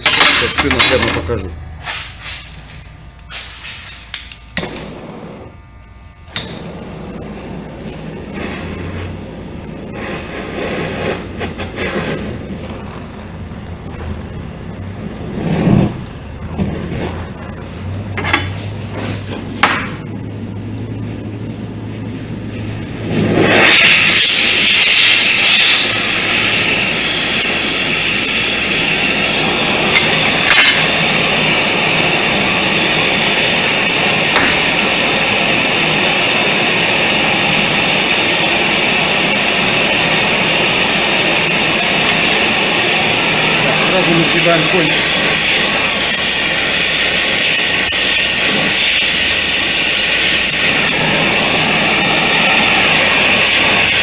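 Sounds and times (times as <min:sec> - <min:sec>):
cutting torch flame hissing: 0:00.0 - 0:54.0.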